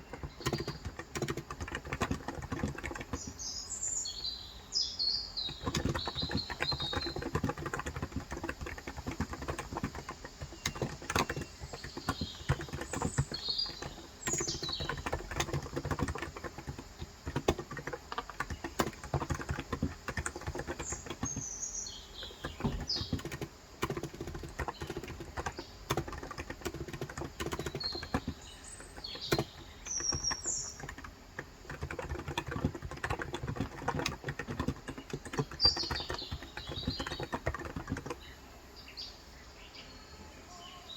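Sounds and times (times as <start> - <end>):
keyboard typing: 0.0 - 3.7, 5.4 - 38.3
small birds chirping: 0.0 - 40.9.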